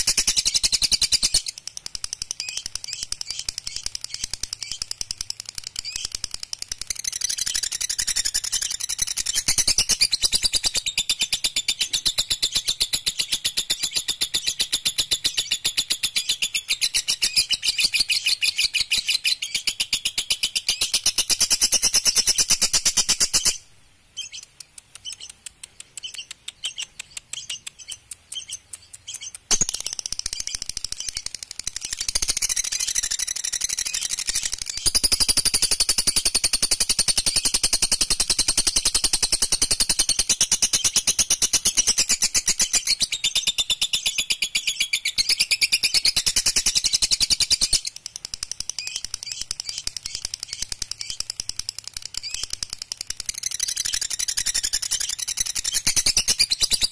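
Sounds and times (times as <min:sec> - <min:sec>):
lovebird chattering trill: 0:00.0 - 0:23.6, 0:24.2 - 0:56.9
soft bird chirping: 0:00.0 - 0:36.6, 0:37.2 - 0:56.9.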